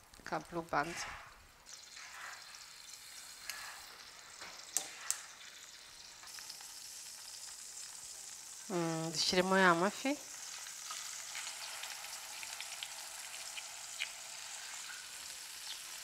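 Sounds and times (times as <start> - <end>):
margarine sizzling in a frying pan: 0.0 - 16.0.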